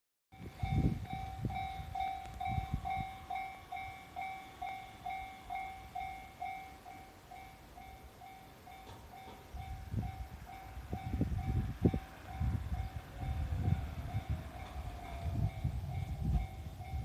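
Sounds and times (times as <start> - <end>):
level-crossing warning bell: 0.4 - 17.0.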